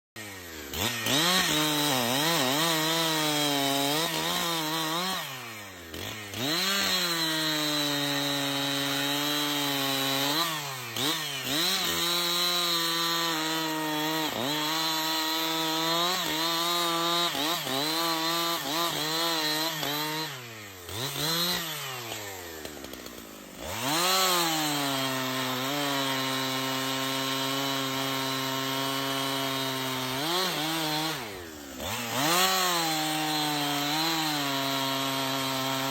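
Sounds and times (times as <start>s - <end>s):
chainsaw cutting wood: 0.2s - 35.9s.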